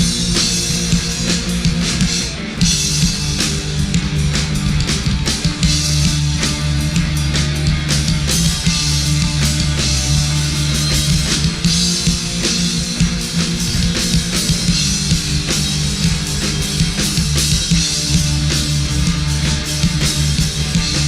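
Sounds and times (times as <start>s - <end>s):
drum kit with bright cymbals: 0.0s - 21.0s
guitar: 0.0s - 21.0s
held bass line: 0.0s - 21.0s.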